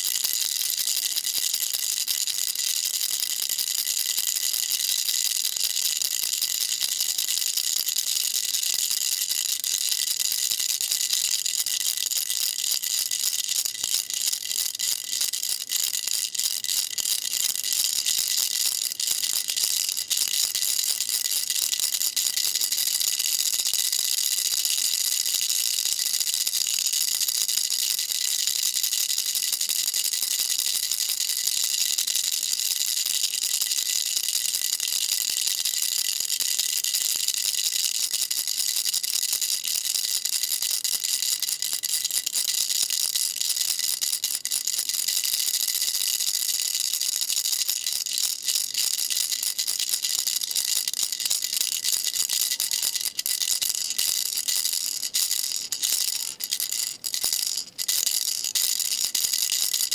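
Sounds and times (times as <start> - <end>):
baby rattle shaken: 0.0 - 59.9.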